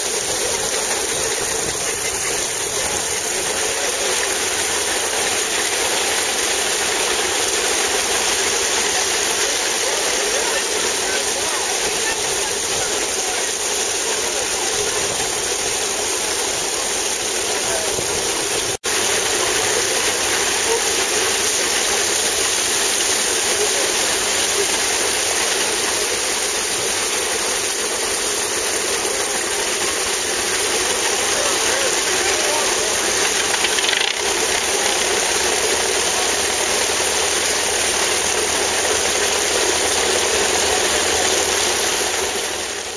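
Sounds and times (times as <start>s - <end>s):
threshing machine running: 0.0s - 42.9s.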